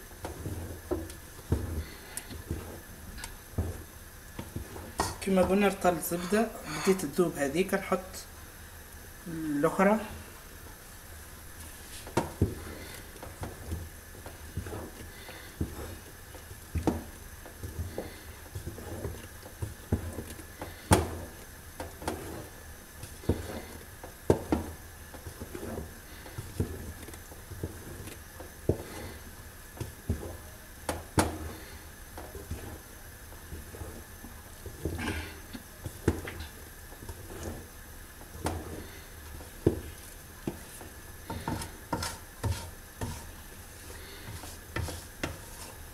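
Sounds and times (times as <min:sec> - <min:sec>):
wooden spoon scraping a pot: 0:00.0 - 0:07.3, 0:11.5 - 0:45.9.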